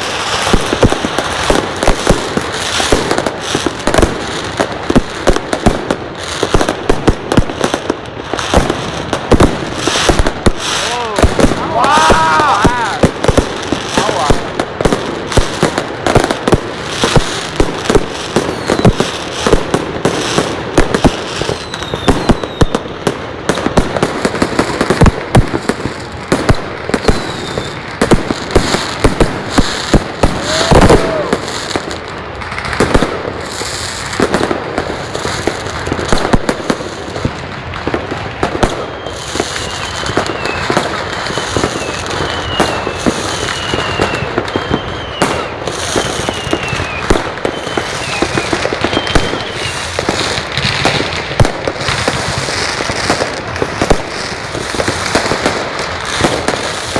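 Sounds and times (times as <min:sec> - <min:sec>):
falling firework whistles: 0:00.0 - 0:34.5, 0:37.8 - 0:56.9
fireworks bangs and crackles: 0:00.0 - 0:56.9.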